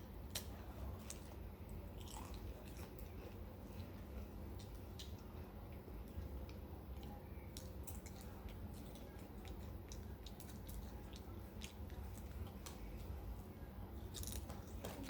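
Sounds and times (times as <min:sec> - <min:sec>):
low room rumble: 0:00.0 - 0:15.0
person chewing a snack: 0:00.2 - 0:13.1, 0:14.0 - 0:15.0.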